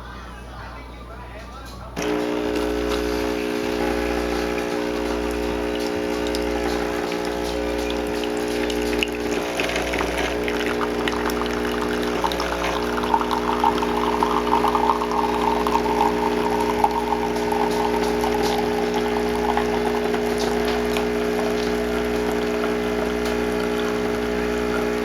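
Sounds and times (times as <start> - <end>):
coffee machine pump humming: 2.0 - 25.0
coffee pouring into cup: 2.0 - 25.0.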